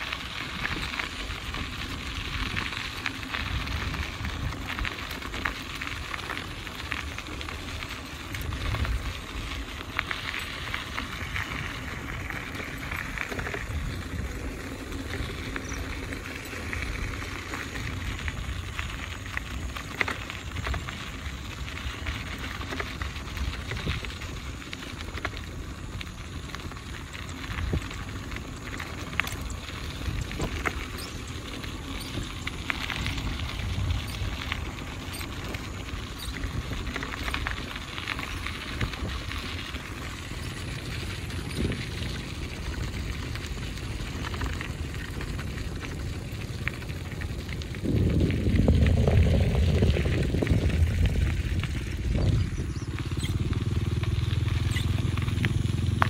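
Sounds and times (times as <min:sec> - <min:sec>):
light clicks and crackles: 0:00.0 - 0:48.0
wind rumble on microphone: 0:00.0 - 0:56.0.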